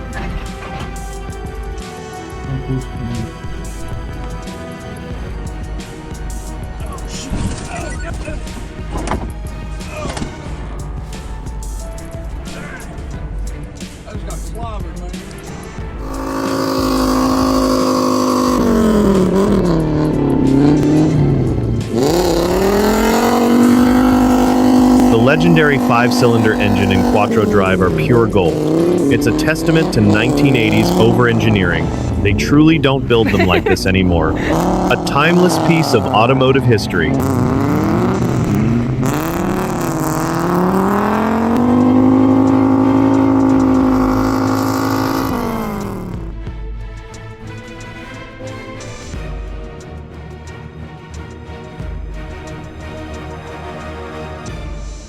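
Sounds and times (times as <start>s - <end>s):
car engine revving: 0.0s - 13.1s, 15.2s - 46.5s.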